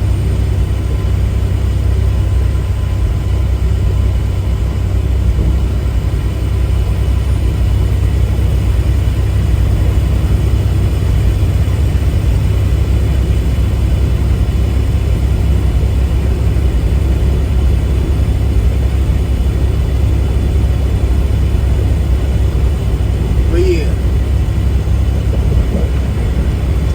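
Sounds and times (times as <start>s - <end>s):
truck engine and road rumble: 0.0s - 26.9s.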